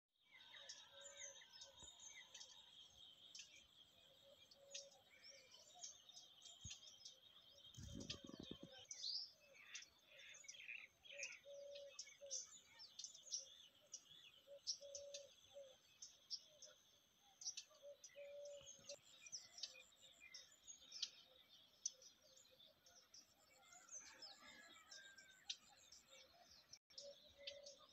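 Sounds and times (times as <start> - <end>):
birds chirping and calling: 0.3 - 27.9.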